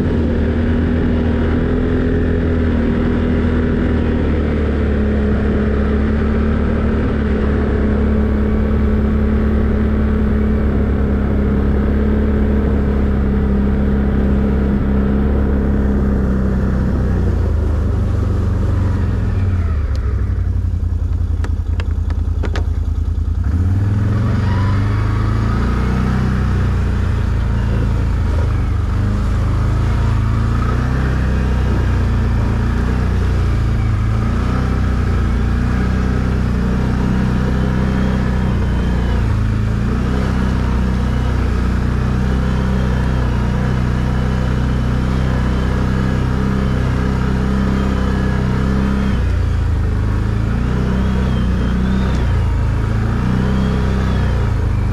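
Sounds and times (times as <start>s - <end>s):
quad bike engine running: 0.0s - 54.9s.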